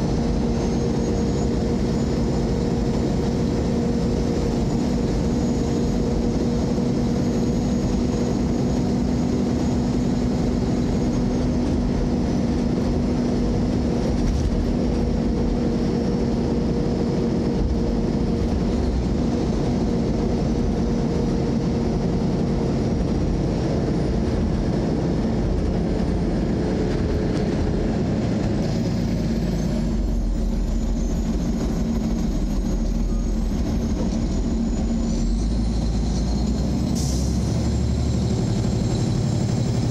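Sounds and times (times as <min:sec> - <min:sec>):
car cabin road and engine noise: 0:00.0 - 0:39.9.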